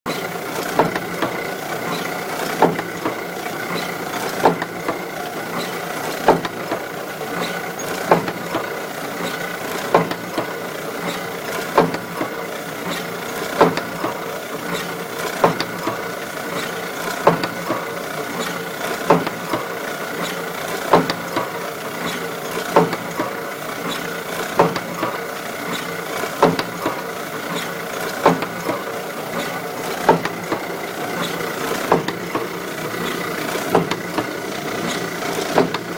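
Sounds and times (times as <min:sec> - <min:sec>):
steady mechanical clatter: 0:00.1 - 0:35.9.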